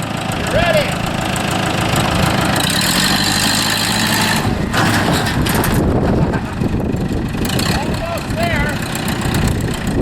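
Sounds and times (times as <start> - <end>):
tractor engine running under load: 0.0 - 10.0.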